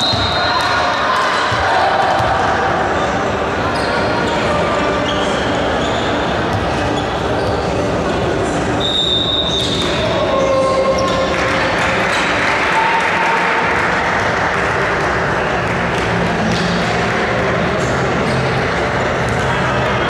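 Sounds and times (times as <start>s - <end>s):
crowd voices and shouts: 0.0s - 20.0s.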